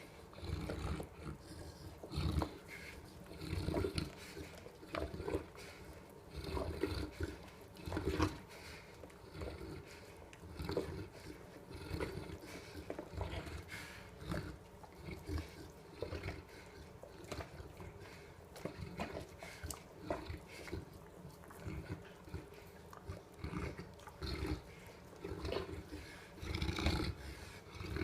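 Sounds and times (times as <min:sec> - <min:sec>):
dog slurping and gulping: 0:00.0 - 0:28.0.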